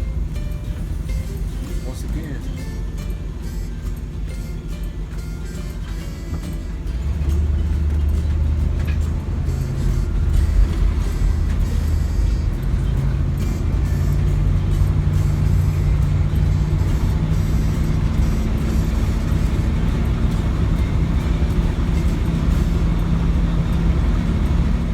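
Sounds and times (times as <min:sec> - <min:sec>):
bus engine and road drone: 0:00.0 - 0:24.9
music playing: 0:00.0 - 0:24.9.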